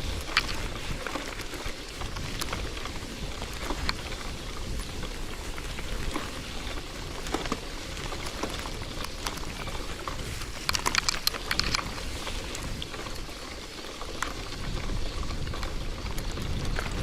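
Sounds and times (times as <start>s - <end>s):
bicycle crackles and clicks: 0.0s - 17.0s
bicycle tyre hissing on wet ground: 0.0s - 17.0s.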